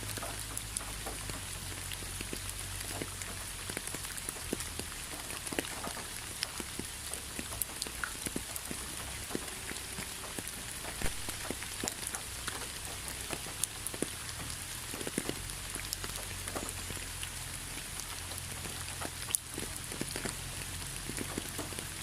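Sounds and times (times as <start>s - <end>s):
rain pattering: 0.0s - 22.0s
raindrops ticking: 0.0s - 22.0s.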